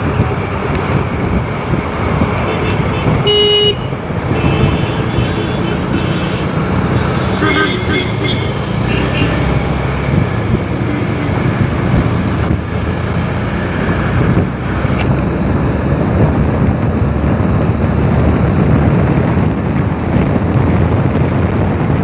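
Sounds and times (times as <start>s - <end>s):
motorcycle engine and road noise: 0.0s - 22.0s
wind rush on microphone: 0.0s - 22.0s.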